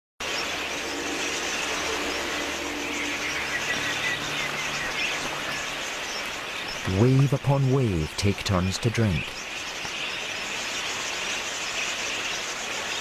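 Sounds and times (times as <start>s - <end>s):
flock of budgerigars chattering: 0.2s - 13.0s.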